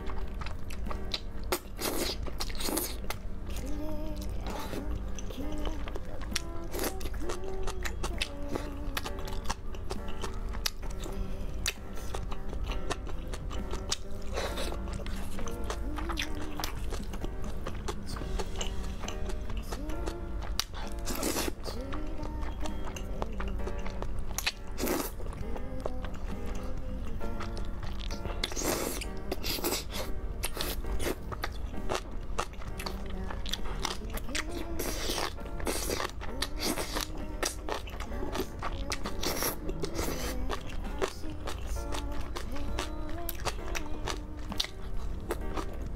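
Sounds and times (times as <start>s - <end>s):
background music: 0.0s - 45.9s
person chewing and slurping noodles: 0.0s - 45.9s.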